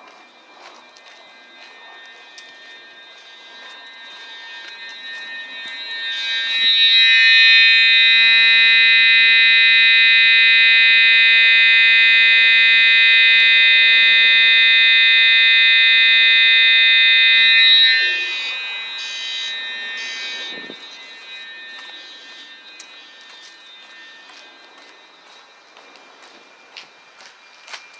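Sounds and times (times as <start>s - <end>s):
fire alarm shrill tone: 0.7s - 26.9s.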